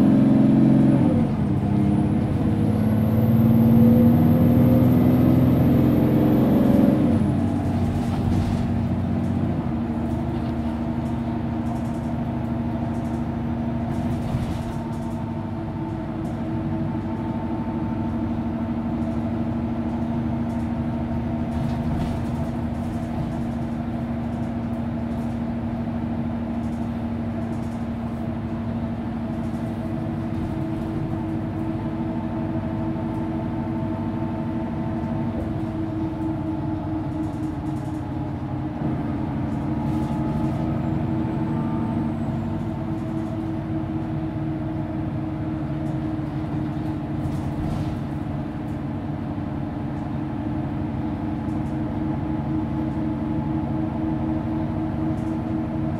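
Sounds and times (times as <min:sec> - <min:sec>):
bus engine droning: 0:00.0 - 0:55.9.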